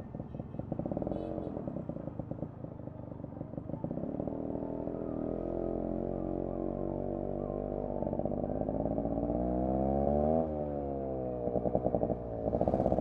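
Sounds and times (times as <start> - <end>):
two-stroke motorcycle engine running: 0.0 - 5.6, 7.6 - 13.0.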